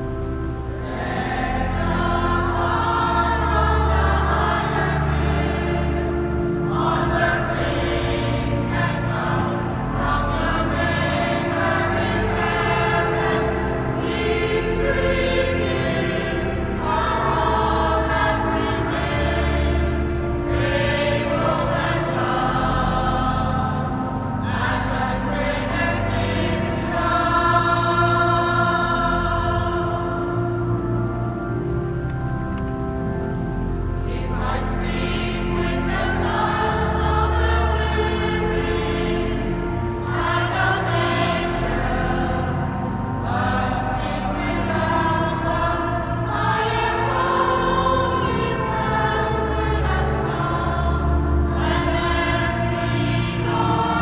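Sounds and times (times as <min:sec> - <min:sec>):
choir singing: 0:00.0 - 0:54.0
sustained low accompaniment: 0:00.0 - 0:54.0.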